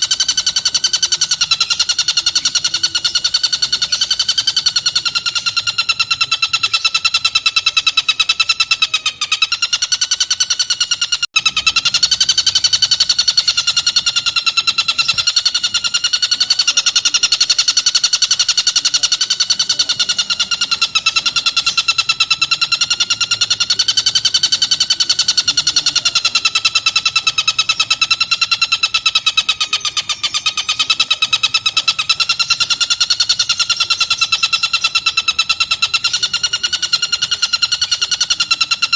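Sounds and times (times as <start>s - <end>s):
kingfisher chattering call: 0.0s - 38.9s.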